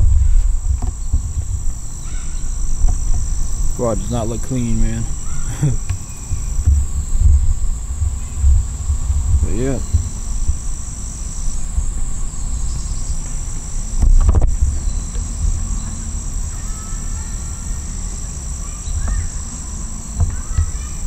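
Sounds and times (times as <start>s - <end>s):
insects chirping: 0.0s - 21.0s
low rumble: 0.0s - 21.0s.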